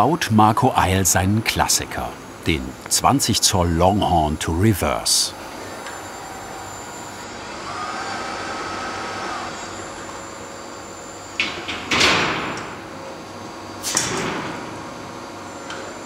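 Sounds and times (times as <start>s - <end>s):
machine whine: 0.0s - 16.0s
steady machine hum: 0.0s - 16.0s.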